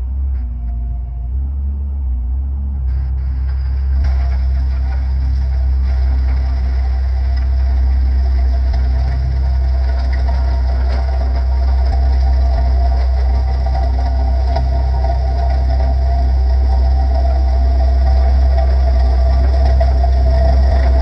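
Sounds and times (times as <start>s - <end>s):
skid steer engine droning: 0.0s - 21.0s.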